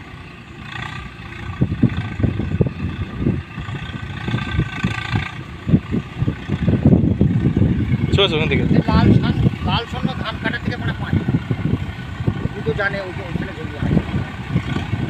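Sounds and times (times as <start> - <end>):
distant tractor diesel engine: 0.0 - 15.0
gusty low rumbling: 0.0 - 15.0.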